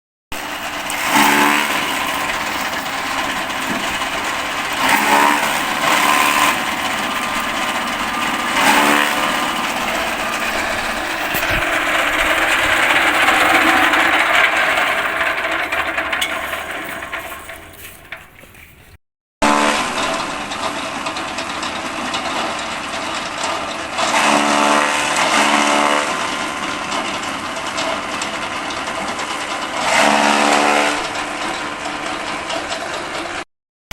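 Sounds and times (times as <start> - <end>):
forage chopper running: 0.3 - 33.4.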